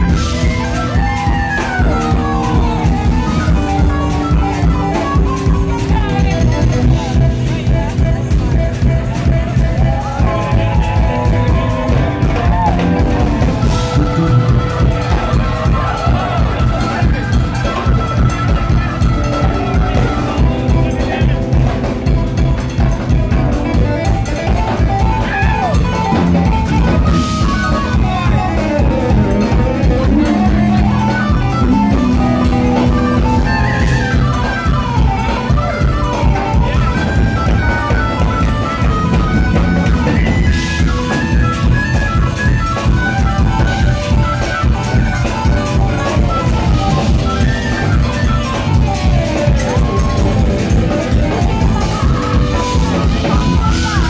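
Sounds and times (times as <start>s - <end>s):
jazz-fusion band playing: 0.0s - 54.0s.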